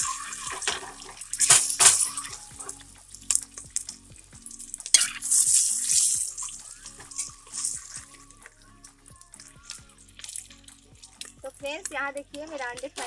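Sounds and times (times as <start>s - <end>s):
eggs sizzling in hot oil: 0.0s - 13.0s.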